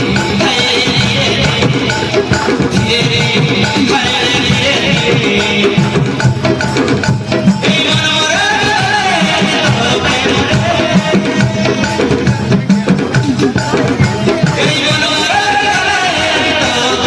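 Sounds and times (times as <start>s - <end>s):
drums and hand percussion: 0.0s - 17.0s.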